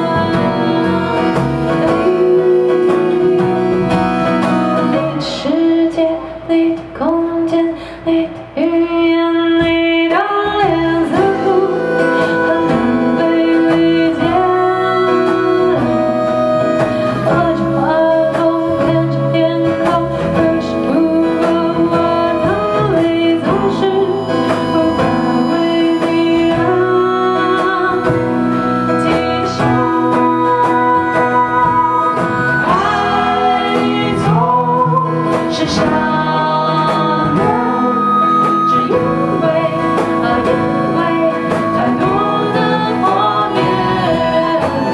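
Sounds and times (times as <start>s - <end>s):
strummed acoustic guitar: 0.0s - 6.9s, 9.6s - 44.9s
person singing: 0.0s - 44.9s.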